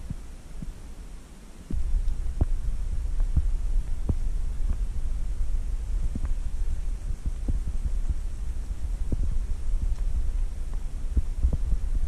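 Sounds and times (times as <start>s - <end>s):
low microphone rumble: 1.7s - 12.0s.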